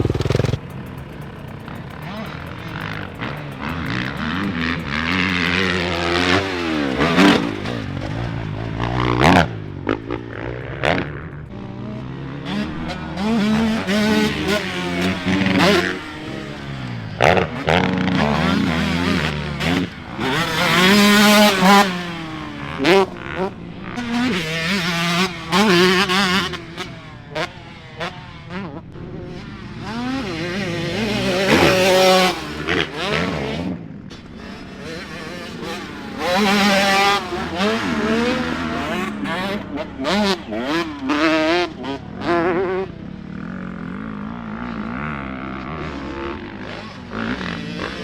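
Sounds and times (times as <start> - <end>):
dirt bike engines revving: 0.0 - 48.0.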